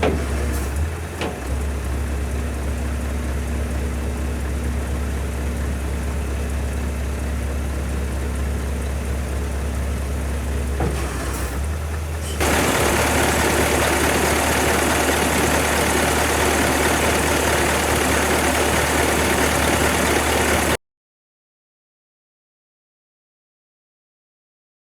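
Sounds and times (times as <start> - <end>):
truck diesel engine idling: 0.0 - 20.8.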